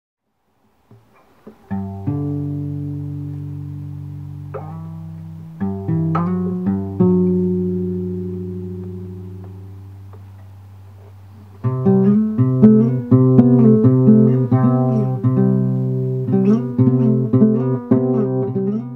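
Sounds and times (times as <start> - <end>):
plucked guitar playing: 0.9 - 18.9.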